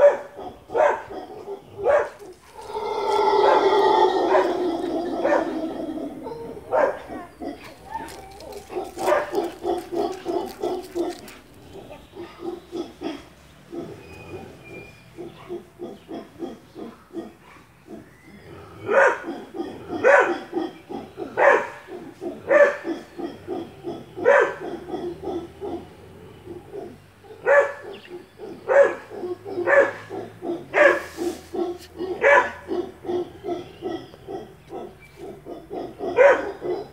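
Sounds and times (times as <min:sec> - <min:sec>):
dog barking: 0:00.0 - 0:02.4, 0:03.4 - 0:04.6, 0:05.2 - 0:05.6, 0:06.2 - 0:17.8, 0:18.9 - 0:36.9
howler monkeys grunting: 0:00.0 - 0:36.9.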